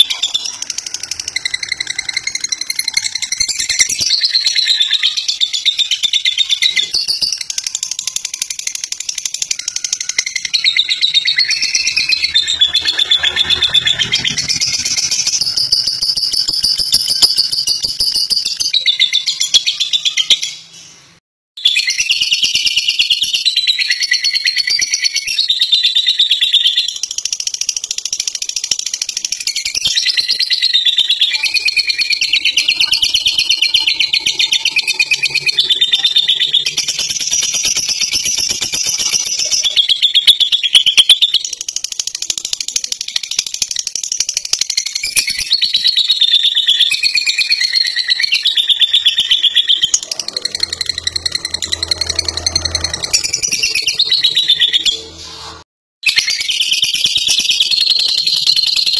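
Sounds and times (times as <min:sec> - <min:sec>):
lovebird chattering: 0:00.0 - 0:20.6, 0:26.8 - 0:55.6.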